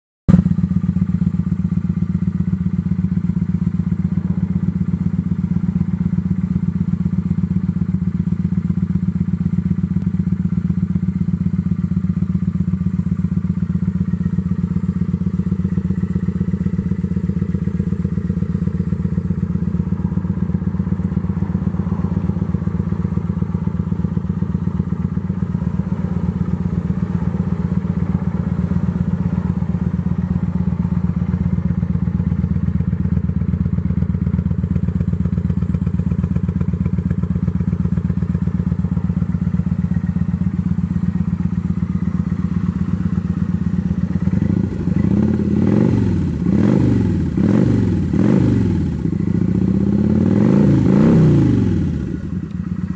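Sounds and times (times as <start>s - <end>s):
motorcycle engine idling: 0.3s - 52.9s
motorcycle throttle blips: 0.3s - 52.9s.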